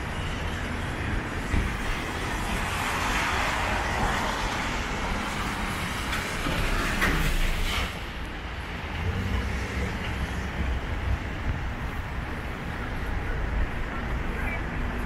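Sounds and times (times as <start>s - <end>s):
city street noise: 0.0s - 15.0s.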